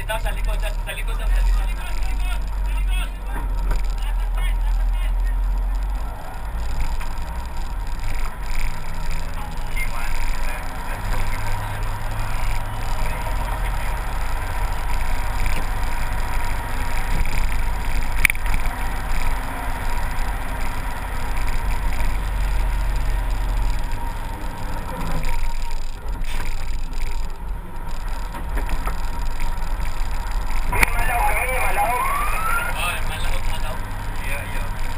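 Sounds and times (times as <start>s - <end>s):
faint steady whine: 0.0s - 34.9s
heavy engine rumbling: 0.0s - 34.9s.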